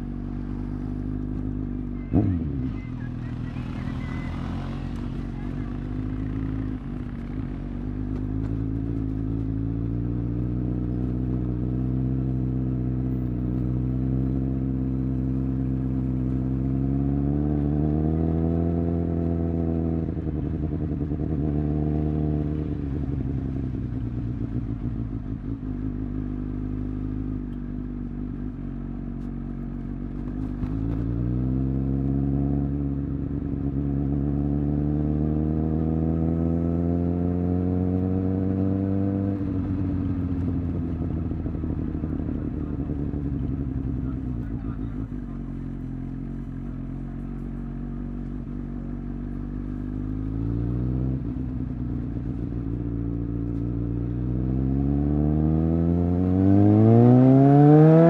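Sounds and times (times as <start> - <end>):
motorcycle engine at highway speed: 0.0 - 58.0.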